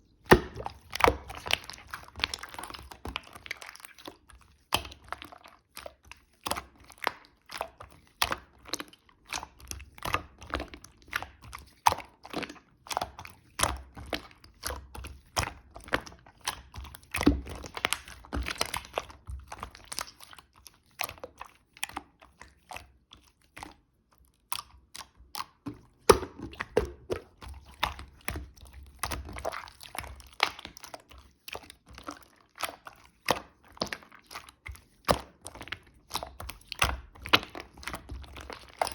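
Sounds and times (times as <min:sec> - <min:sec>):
hands squishing sticky slime: 0:00.0 - 0:38.9.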